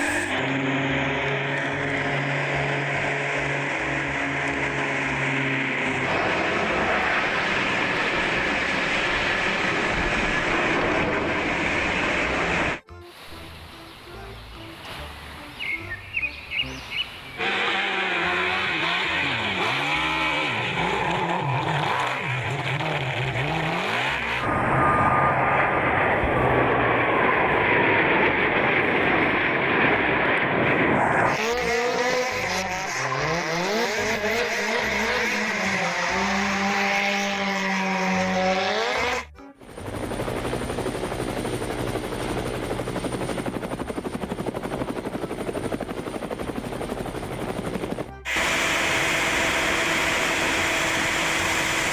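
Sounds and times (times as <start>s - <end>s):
vehicle engines revving: 0.0s - 12.8s, 14.6s - 51.9s.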